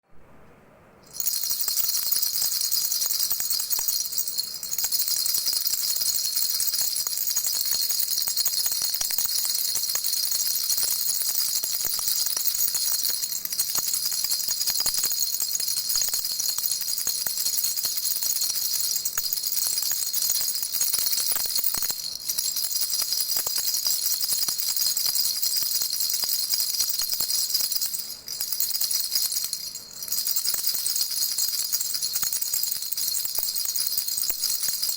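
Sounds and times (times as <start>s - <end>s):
baby rattle bells jingling: 1.0s - 34.9s.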